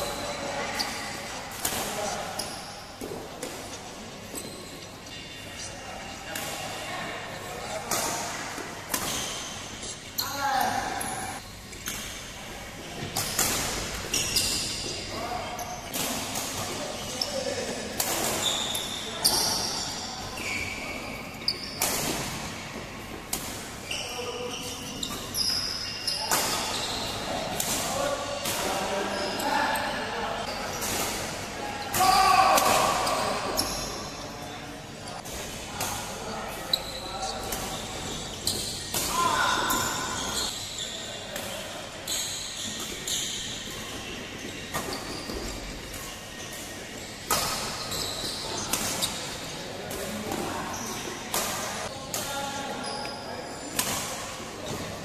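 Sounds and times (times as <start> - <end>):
shoes squeaking on court floor: 0.0 - 12.3, 13.0 - 55.0.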